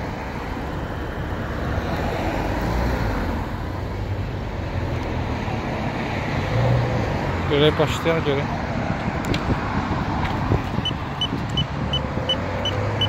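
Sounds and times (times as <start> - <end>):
passing cars rumbling: 0.0 - 13.0.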